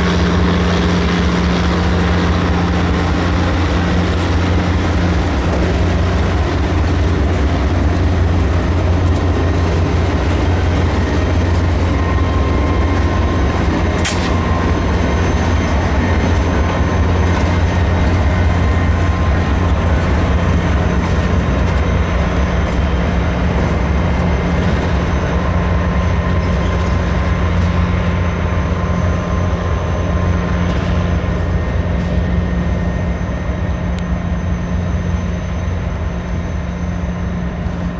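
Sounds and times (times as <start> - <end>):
diesel locomotive engine hum: 0.0 - 37.9.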